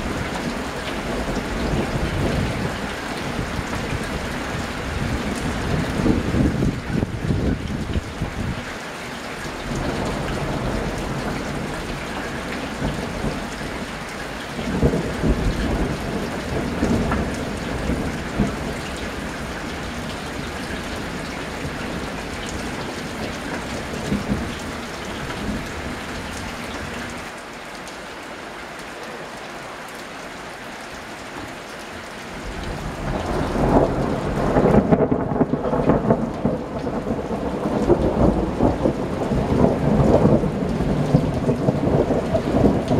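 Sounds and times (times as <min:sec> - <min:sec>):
thunder rumbling: 0:00.0 - 0:08.7, 0:09.6 - 0:27.2, 0:32.4 - 0:42.9
heavy rain: 0:00.0 - 0:42.9.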